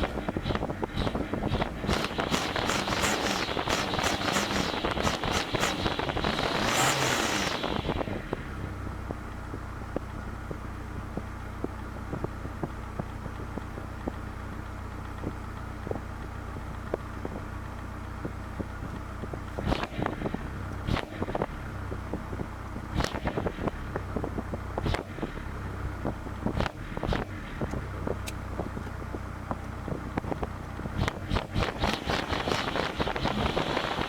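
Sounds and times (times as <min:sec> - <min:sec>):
car engine and road drone: 0:00.0 - 0:34.0.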